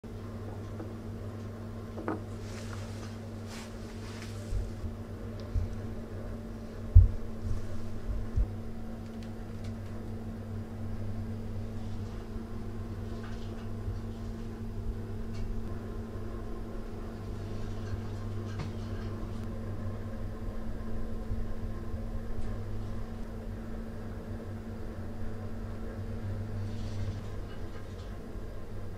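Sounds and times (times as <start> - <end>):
low hum: 0.1 - 28.9.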